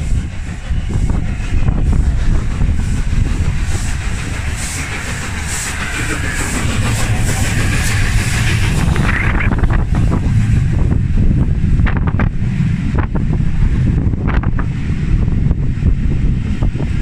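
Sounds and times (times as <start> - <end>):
steam hissing: 0.0 - 17.0
steam locomotive passing: 0.0 - 17.0.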